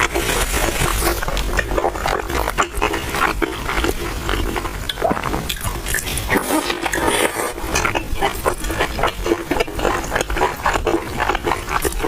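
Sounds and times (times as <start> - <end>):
chewing crunchy food: 0.0 - 12.0.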